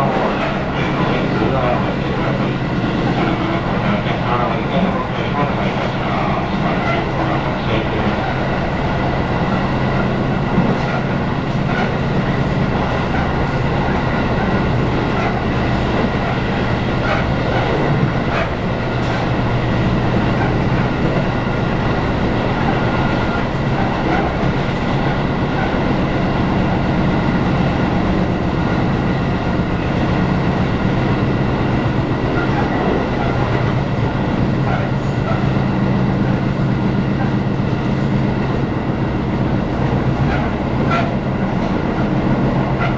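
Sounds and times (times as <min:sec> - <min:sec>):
train car running rumble: 0:00.0 - 0:42.9.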